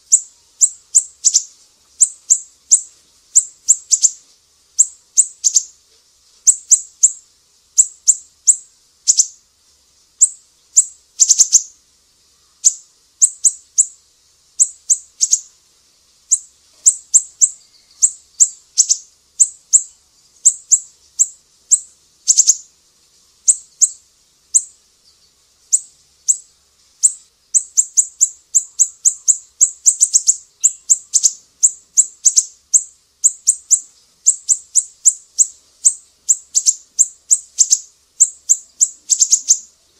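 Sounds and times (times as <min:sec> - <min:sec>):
songbird high sharp chirps: 0:00.0 - 0:05.8, 0:06.4 - 0:09.4, 0:10.2 - 0:11.8, 0:12.4 - 0:15.5, 0:16.2 - 0:22.7, 0:23.4 - 0:39.8.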